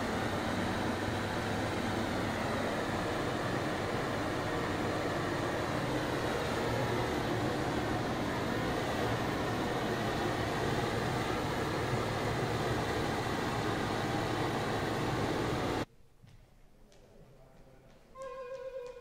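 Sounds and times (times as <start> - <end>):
gas torch flame hissing: 0.0 - 15.9.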